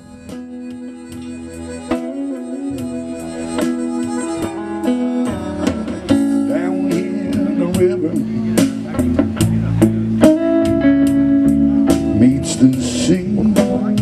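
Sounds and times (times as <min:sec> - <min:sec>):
bass guitar: 0:00.0 - 0:14.0
slow blues guitar: 0:00.0 - 0:14.0.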